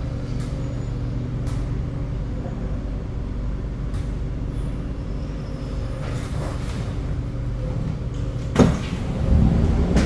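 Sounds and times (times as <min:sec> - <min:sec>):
train low hum: 0:00.0 - 0:10.0.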